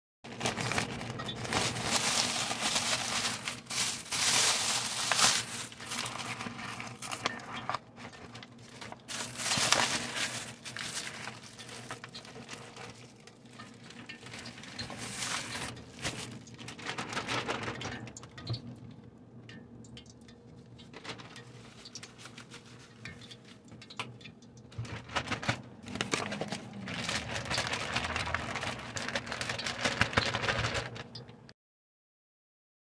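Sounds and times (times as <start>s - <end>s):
plastic bag crinkling: 0.2s - 18.8s, 20.8s - 31.5s.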